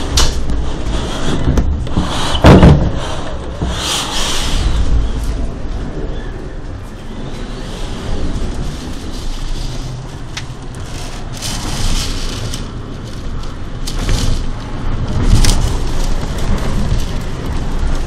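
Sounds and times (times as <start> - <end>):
strong wind against a house: 0.0 - 18.0.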